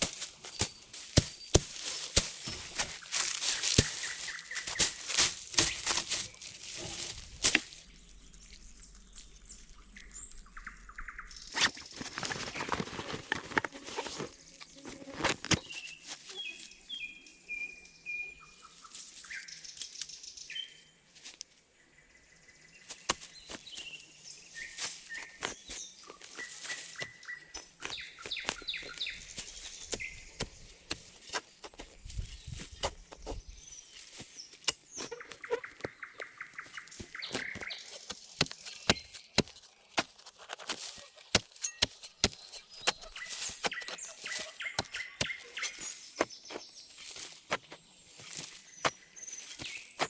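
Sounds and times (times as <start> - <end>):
small birds chirping: 0.0 - 21.1, 21.7 - 50.0.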